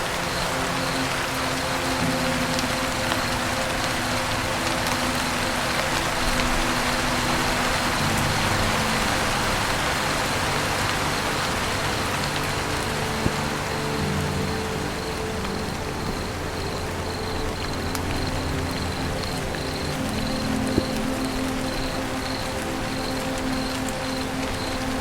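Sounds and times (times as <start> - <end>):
dense rain on a roof: 0.0 - 25.0.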